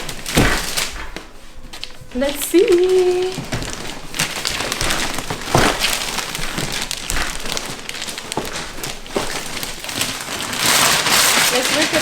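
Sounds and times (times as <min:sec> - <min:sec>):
gift wrapping paper crinkling: 0:00.0 - 0:12.0.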